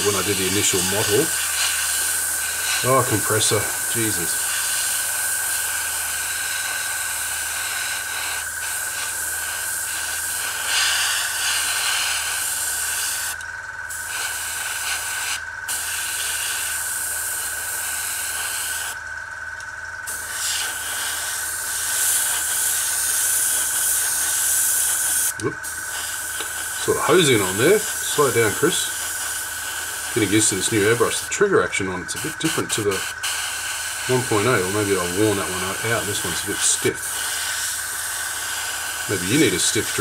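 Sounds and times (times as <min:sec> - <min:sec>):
airbrush hissing: 0:00.0 - 0:19.0, 0:20.0 - 0:40.0
air compressor humming: 0:00.0 - 0:40.0.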